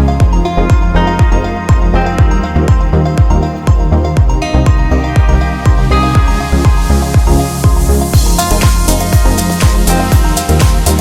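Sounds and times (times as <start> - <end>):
kick drum: 0.0 - 11.0
synth chords: 0.0 - 11.0.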